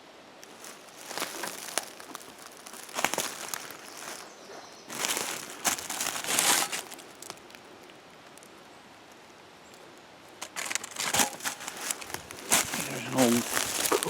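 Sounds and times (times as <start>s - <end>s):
rustling in dry leaves: 0.4s - 8.6s, 10.2s - 14.0s.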